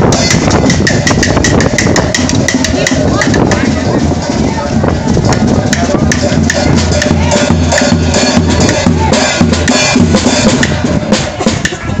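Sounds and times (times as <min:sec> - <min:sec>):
bass drum booming: 0:00.0 - 0:12.0
snare drums: 0:00.0 - 0:12.0.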